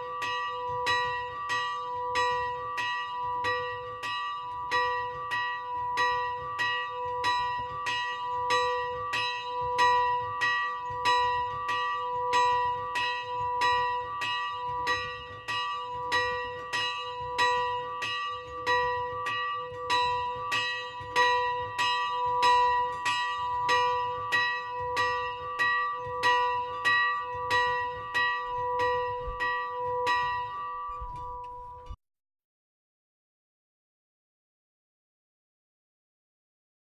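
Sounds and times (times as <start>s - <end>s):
small church bell ringing: 0.0s - 32.0s.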